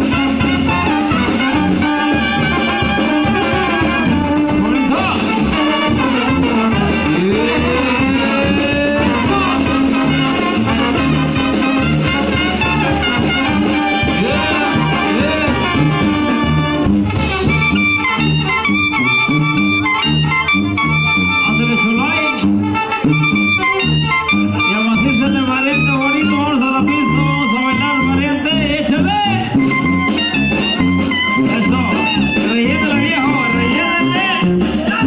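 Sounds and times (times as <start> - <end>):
drums: 0.0 - 35.0
sousaphone bass line: 0.0 - 35.0
trumpets trombones and clarinets: 0.0 - 35.0.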